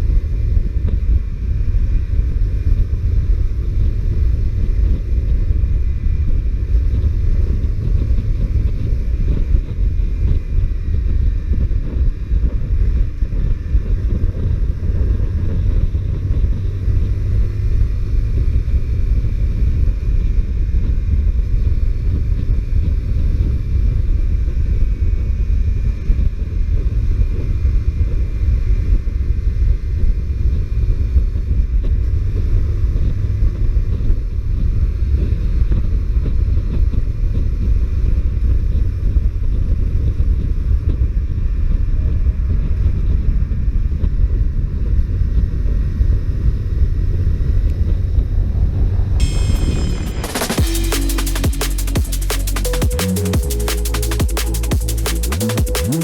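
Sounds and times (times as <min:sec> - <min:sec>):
wind rumble on microphone: 0:00.0 - 0:50.6.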